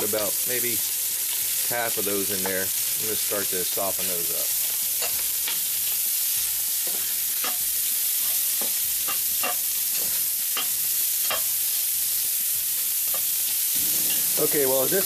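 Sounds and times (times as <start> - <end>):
onions sizzling in fat: 0.0 - 15.0.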